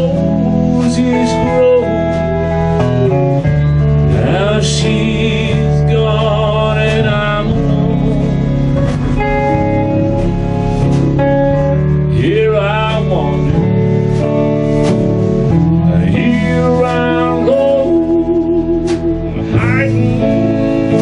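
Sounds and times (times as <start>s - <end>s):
country band playing: 0.0s - 21.0s
gliding wavering lead guitar: 0.0s - 21.0s.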